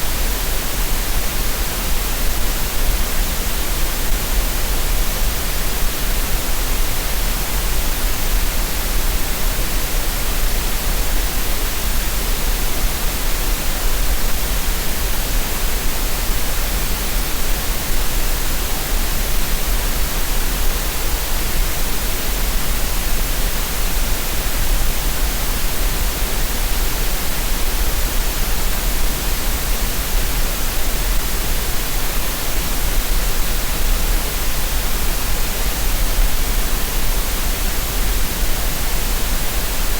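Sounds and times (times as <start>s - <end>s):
steady synthetic noise hiss: 0.0s - 39.9s.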